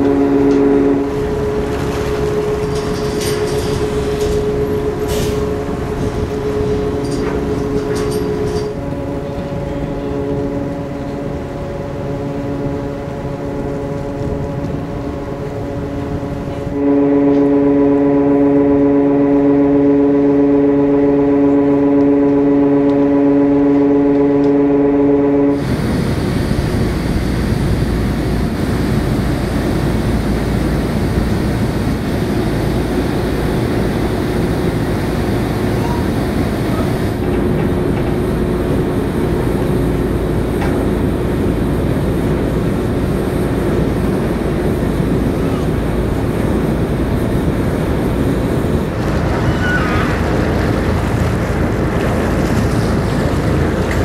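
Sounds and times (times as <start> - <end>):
water rushing: 0.0 - 16.9, 25.3 - 54.0
ship engine rumble: 0.0 - 54.0
ship horn blast: 0.0 - 54.0
wind: 0.0 - 54.0.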